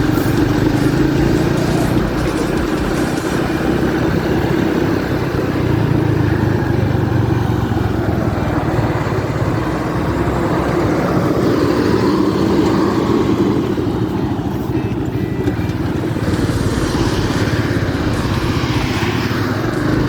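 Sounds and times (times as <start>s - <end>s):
motorcycle engine running: 0.0s - 20.0s
road and wind noise: 0.0s - 20.0s.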